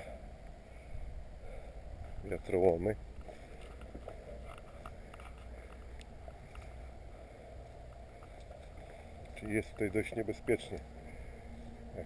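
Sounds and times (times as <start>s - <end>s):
faint ticks and rustles: 1.5s - 11.8s.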